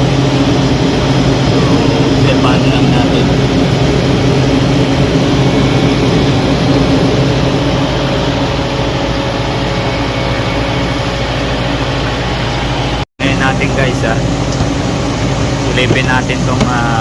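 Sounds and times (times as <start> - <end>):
ice machine humming: 0.0 - 17.0.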